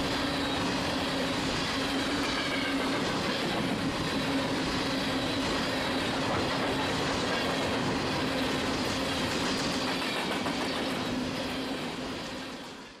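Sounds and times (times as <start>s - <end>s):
freight train wheels clicking: 0.0s - 13.0s
steady train hum: 0.0s - 13.0s.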